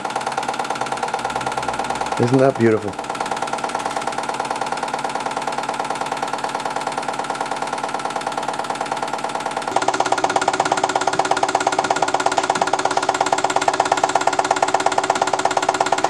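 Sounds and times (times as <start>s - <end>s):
belt-driven model machines running: 0.0s - 16.0s
steady ringing tone: 0.0s - 16.0s
toy steam engine chuffing: 0.0s - 16.0s.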